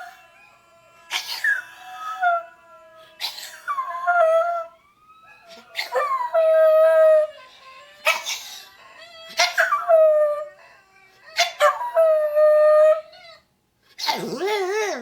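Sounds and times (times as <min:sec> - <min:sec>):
small dog howling: 0:00.0 - 0:13.4, 0:14.0 - 0:15.0.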